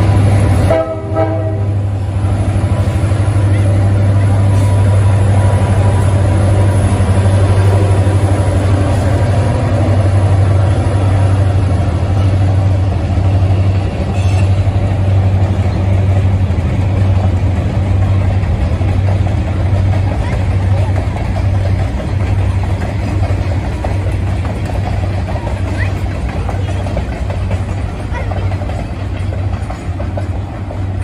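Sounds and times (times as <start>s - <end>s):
freight cars rolling on rails: 0.0s - 31.0s
locomotive engine drone: 0.0s - 31.0s.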